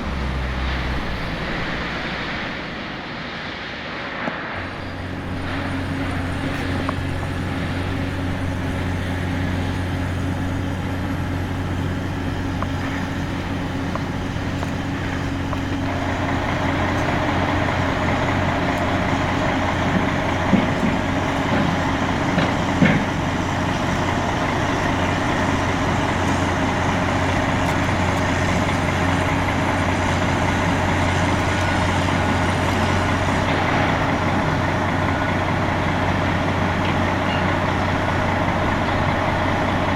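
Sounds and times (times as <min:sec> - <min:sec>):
heavy machinery engine humming: 0:00.0 - 0:39.9.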